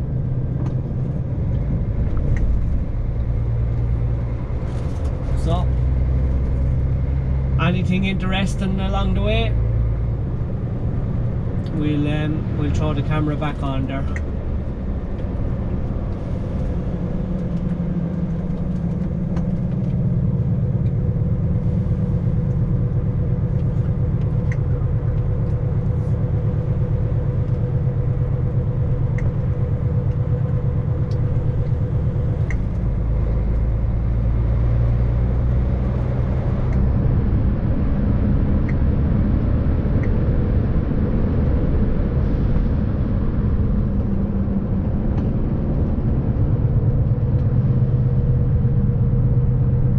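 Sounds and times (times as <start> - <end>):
vehicle engine and road rumble: 0.0 - 49.9.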